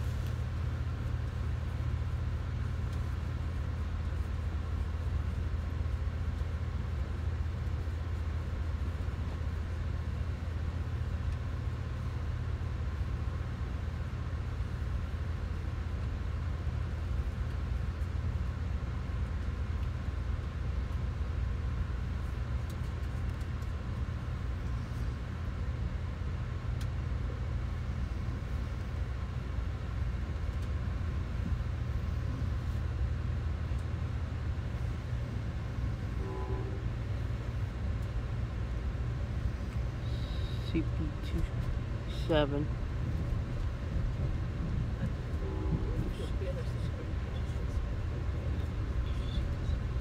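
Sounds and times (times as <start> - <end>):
passenger train rumbling: 0.0 - 50.0.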